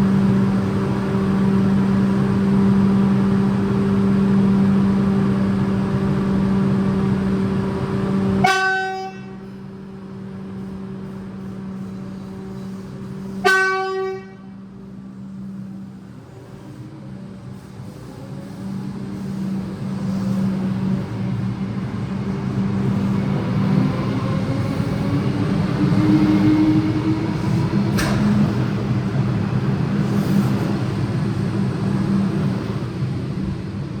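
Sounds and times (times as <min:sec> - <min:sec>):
electric train accelerating: 0:00.0 - 0:08.6, 0:14.6 - 0:34.0.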